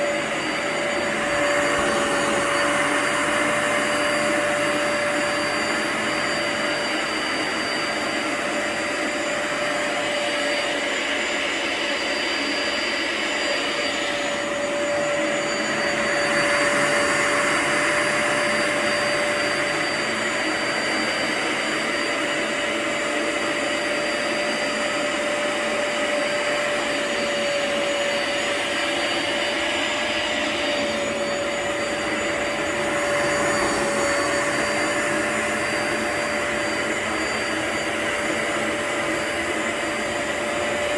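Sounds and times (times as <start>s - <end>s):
floor cleaner suction motor whine: 0.0s - 40.9s.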